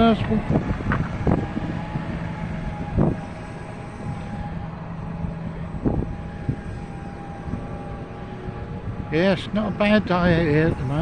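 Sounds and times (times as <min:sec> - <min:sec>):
tractor diesel engine running: 0:00.0 - 0:11.0
wind buffeting microphone: 0:00.0 - 0:11.0.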